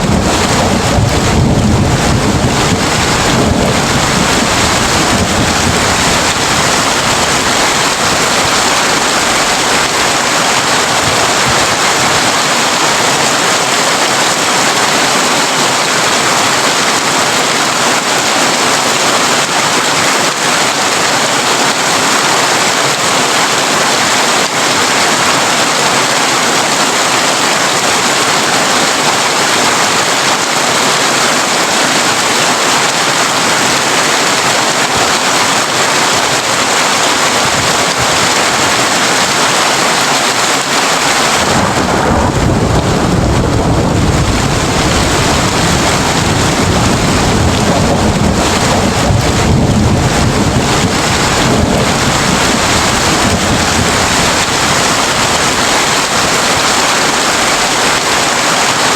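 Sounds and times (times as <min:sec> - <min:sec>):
heavy rain on a tin roof: 0:00.0 - 0:58.9.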